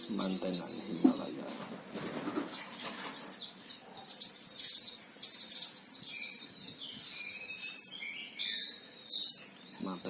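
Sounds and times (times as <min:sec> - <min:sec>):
bird twittering chirps: 0:00.0 - 0:10.0.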